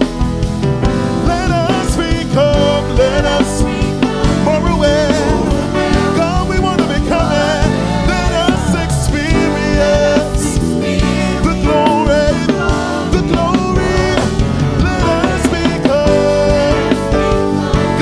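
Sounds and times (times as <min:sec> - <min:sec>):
gospel worship music: 0:00.0 - 0:18.0
person singing: 0:01.2 - 0:17.0.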